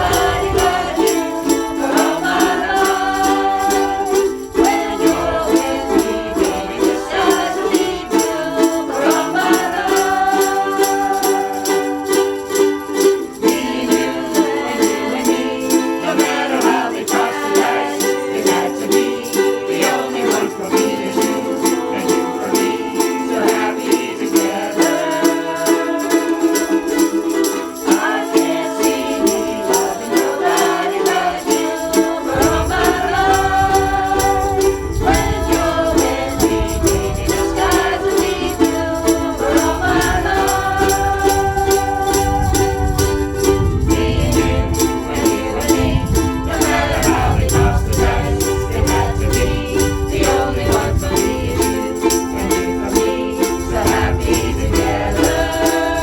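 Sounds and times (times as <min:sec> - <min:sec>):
group of voices singing: 0:00.0 - 0:56.0
ukuleles strumming: 0:00.0 - 0:56.0.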